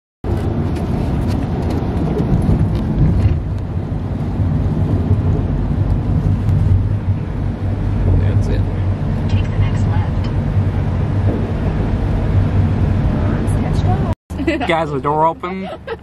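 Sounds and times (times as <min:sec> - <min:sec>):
car engine rumble: 0:00.2 - 0:16.0
tyres on wet road: 0:00.2 - 0:16.0.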